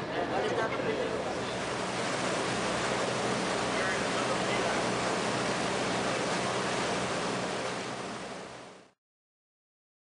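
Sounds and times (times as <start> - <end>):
engine drone: 0.0 - 9.0
water churning in boat wake: 0.0 - 9.0
wind: 0.0 - 9.0.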